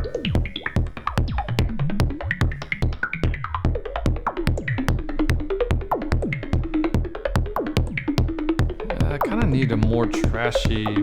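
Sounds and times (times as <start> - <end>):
synthesized kick drum: 0.0 - 11.0.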